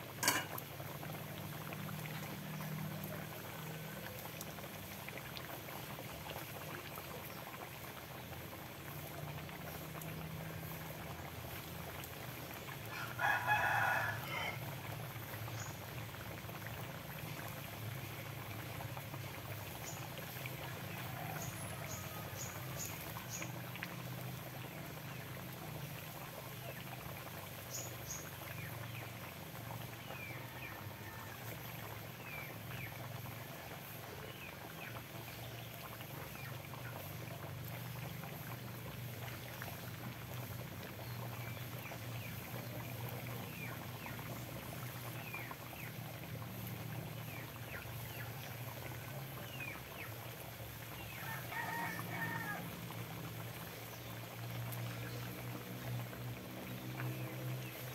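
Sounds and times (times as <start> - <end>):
stew simmering in a wok: 0.0 - 57.9.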